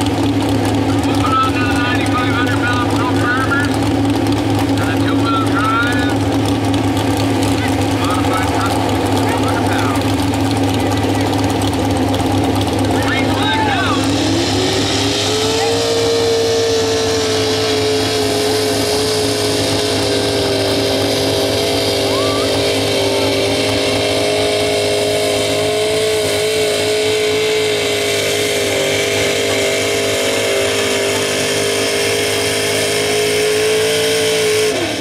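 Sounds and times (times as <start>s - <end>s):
truck engine under full load: 0.0s - 35.0s
tyres spinning in dirt: 0.0s - 35.0s.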